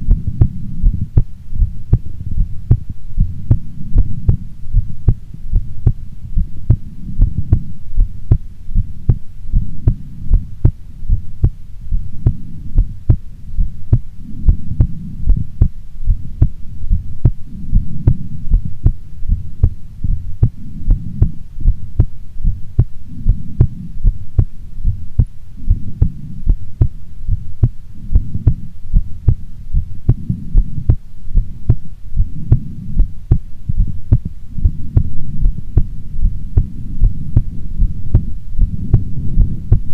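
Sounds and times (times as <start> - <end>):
heartbeat: 0.0 - 39.9
low rumbling hum: 0.0 - 39.9.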